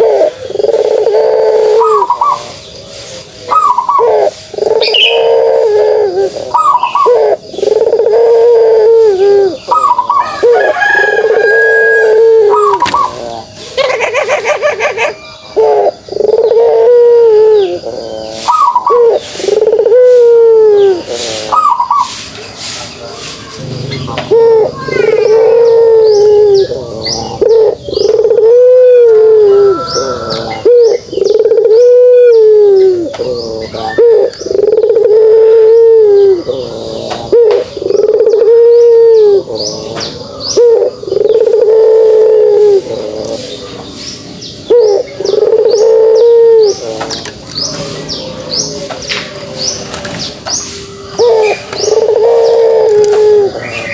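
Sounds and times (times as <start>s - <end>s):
dove cooing: 0.0s - 22.2s, 23.6s - 53.9s.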